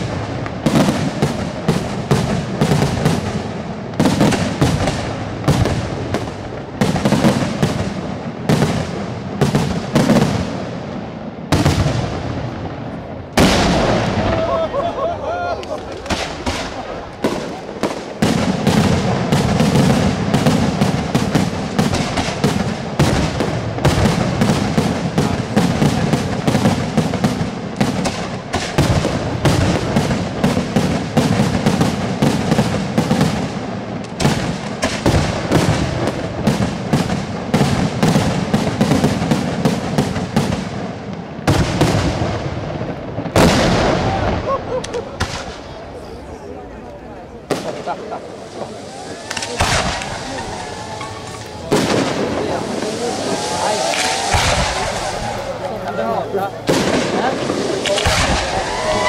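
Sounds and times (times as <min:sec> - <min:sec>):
fireworks banging: 0:00.0 - 0:59.0.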